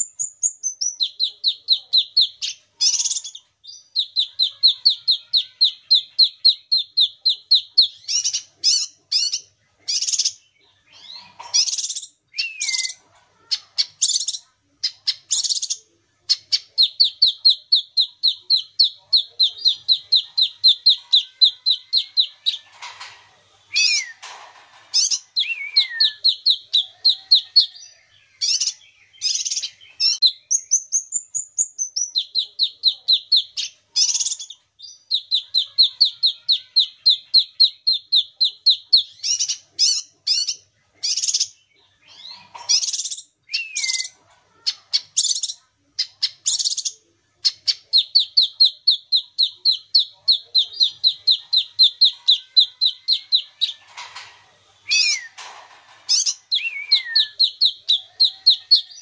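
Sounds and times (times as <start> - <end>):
songbird trilling and chirping: 0.0 - 23.0, 23.7 - 54.3, 54.9 - 59.0.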